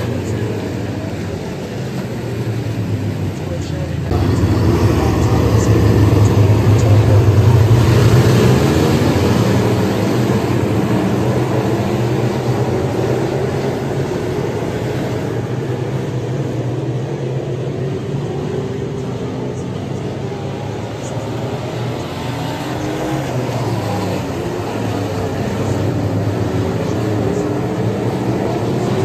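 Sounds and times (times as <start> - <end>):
race car engines passing: 0.0 - 29.0.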